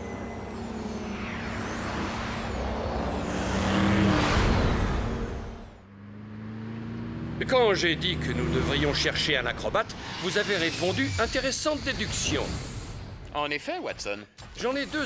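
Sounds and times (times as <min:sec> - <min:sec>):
futuristic vehicle passing by: 0:00.0 - 0:13.0.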